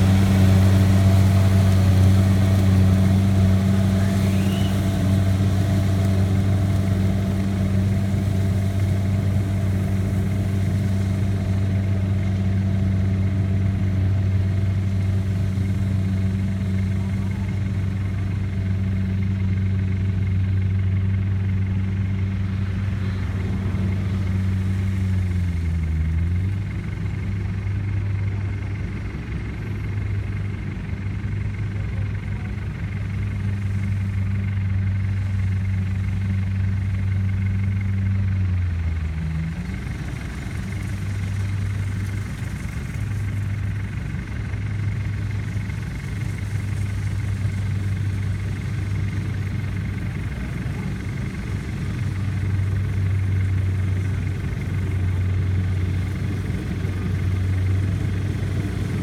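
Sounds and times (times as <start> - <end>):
combine harvester diesel engine: 0.0 - 59.0.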